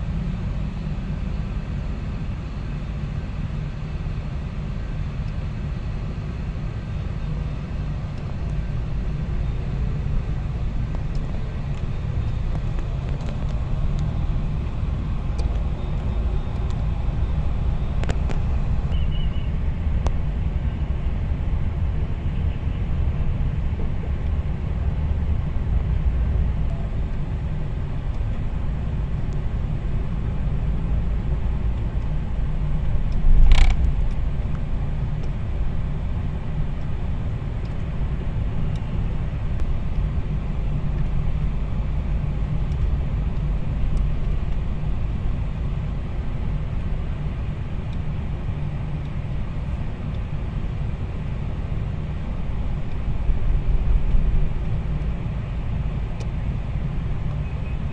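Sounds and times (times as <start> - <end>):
car engine and tyres rumbling: 0.0 - 57.9.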